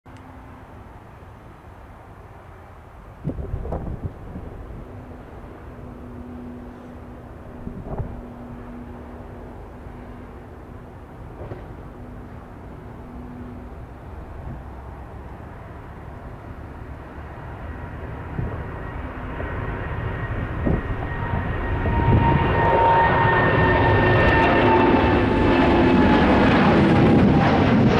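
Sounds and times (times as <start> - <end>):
high engine whine: 0.1 - 27.9
jet engine roar: 0.1 - 27.9.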